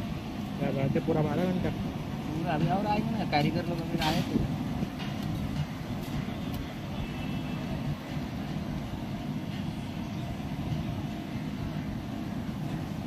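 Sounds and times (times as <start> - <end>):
busy street rumble: 0.0 - 13.0.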